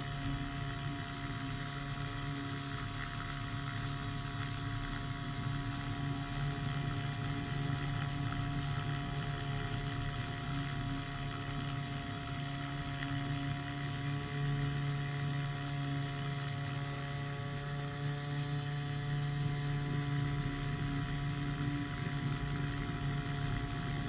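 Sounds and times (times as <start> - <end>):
engine and propeller droning: 0.0 - 24.0.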